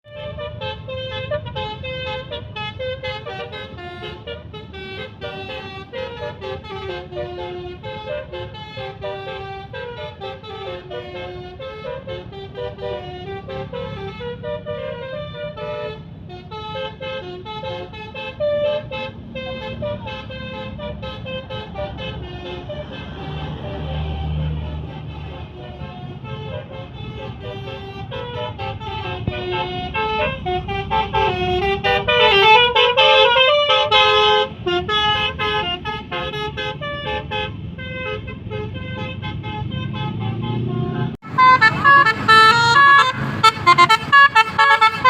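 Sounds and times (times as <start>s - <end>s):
engine low rumble: 0.0s - 45.0s
musical car horns: 0.0s - 45.0s.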